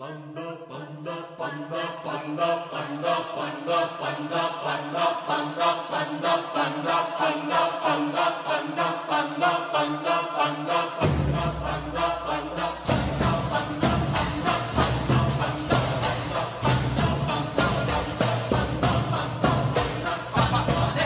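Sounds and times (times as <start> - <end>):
choir chanting rhythmic syllables: 0.0 - 21.0.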